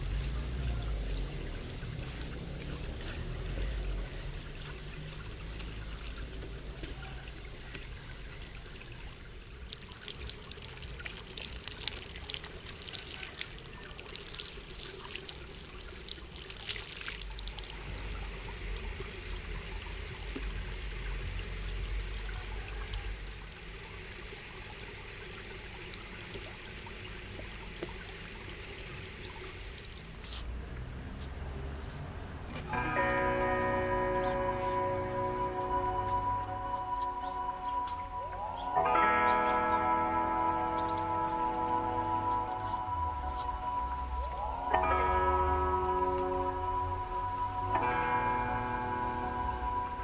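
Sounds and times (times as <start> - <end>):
water trickling and pouring: 0.0 - 31.8, 32.7 - 50.0.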